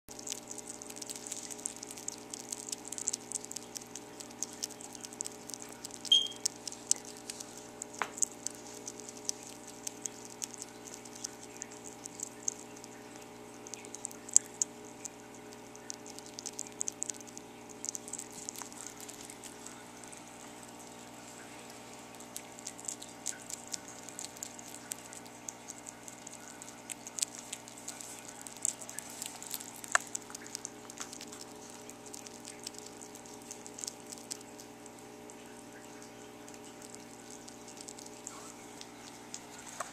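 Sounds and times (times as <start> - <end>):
small animal crunching a mealworm: 0.1 - 39.9.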